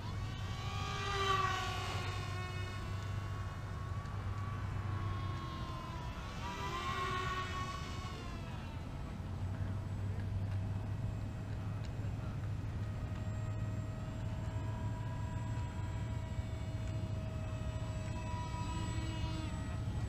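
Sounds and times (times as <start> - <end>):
model plane motor whining: 0.0 - 20.0.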